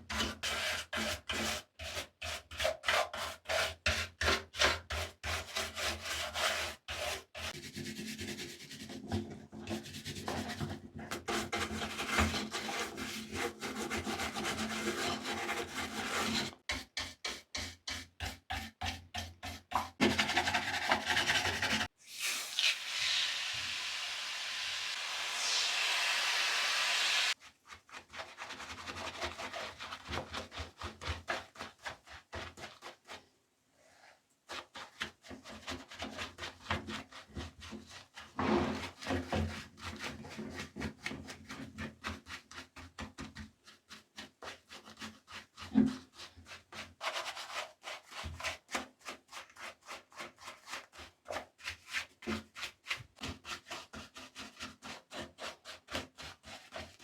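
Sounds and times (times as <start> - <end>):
brush scrubbing toy: 0.1 - 21.9, 27.3 - 33.2, 34.5 - 57.0.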